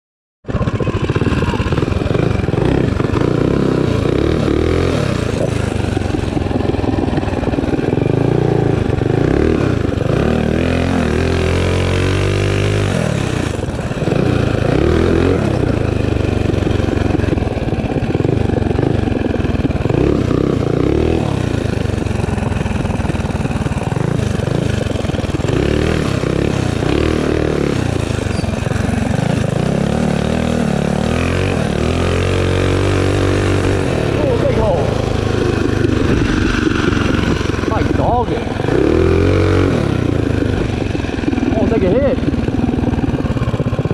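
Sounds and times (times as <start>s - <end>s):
small engine revving: 0.5s - 43.9s.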